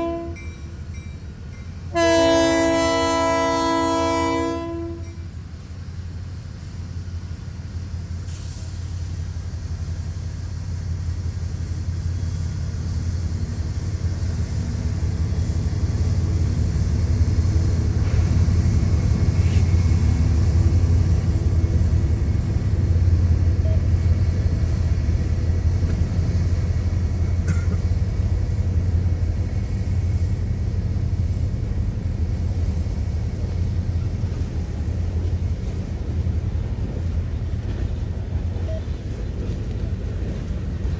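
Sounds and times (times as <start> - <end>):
diesel locomotive engine rumbling: 0.0 - 40.9.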